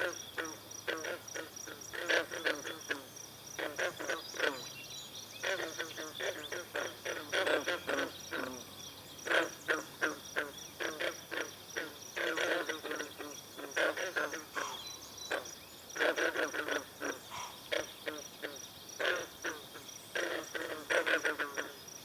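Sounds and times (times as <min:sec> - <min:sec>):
frogs calling in chorus: 0:00.0 - 0:22.0.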